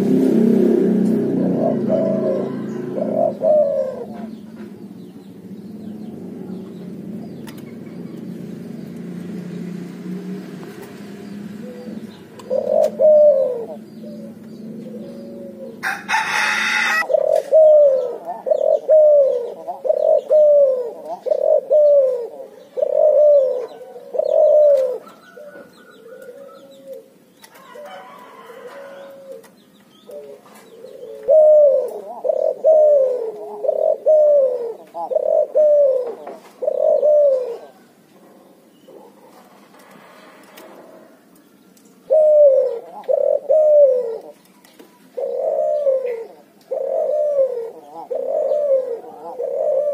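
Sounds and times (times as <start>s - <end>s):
dove cooing: 0.0s - 41.3s, 42.0s - 49.9s.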